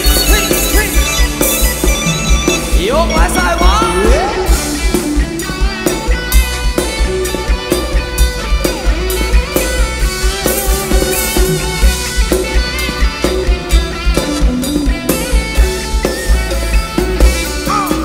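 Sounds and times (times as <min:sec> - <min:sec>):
band playing dance music: 0:00.0 - 0:18.0
drum kit beat: 0:00.0 - 0:18.0.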